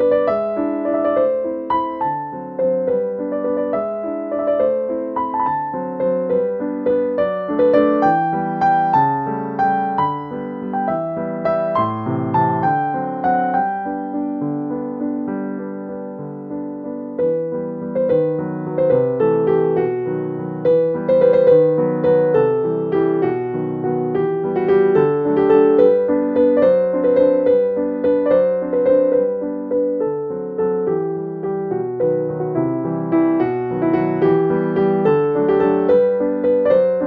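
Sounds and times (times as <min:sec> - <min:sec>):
gentle piano music: 0:00.0 - 0:37.0.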